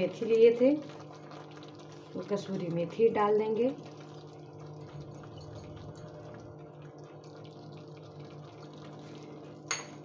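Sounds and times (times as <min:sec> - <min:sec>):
thick gravy bubbling and popping: 0:00.0 - 0:10.0.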